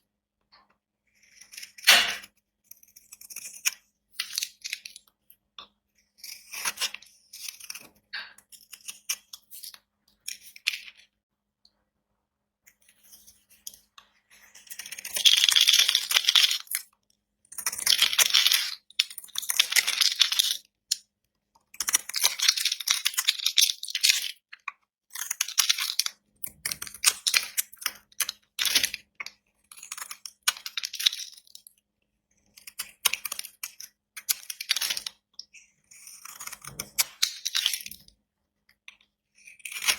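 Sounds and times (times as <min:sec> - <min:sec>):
blade cutting dry soap: 0:00.4 - 0:11.2, 0:12.6 - 0:39.9.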